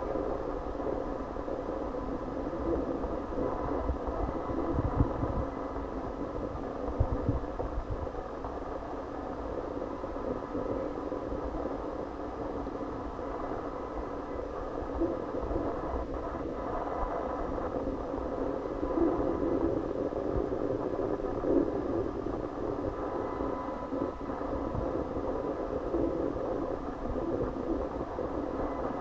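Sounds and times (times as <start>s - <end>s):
faint hum tones: 0.0s - 29.0s.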